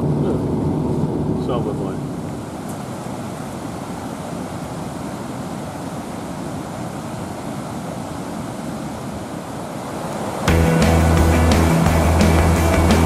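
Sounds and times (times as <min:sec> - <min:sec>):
river rapids roaring: 0:02.4 - 0:13.0.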